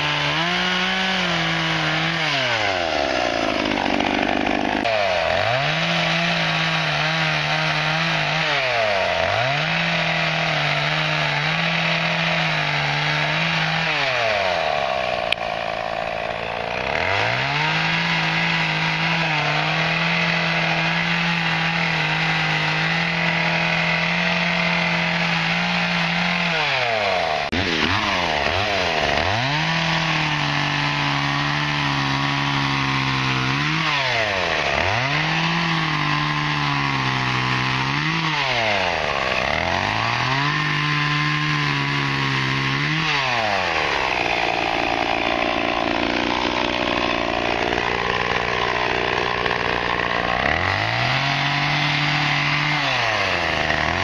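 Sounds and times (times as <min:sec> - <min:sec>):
chainsaw cutting branches: 0:00.0 - 0:54.0.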